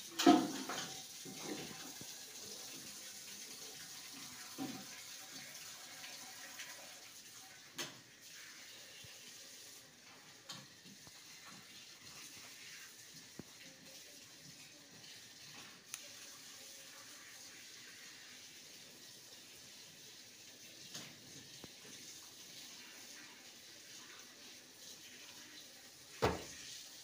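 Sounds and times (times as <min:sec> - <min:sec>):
tap water running: 0:00.0 - 0:27.0.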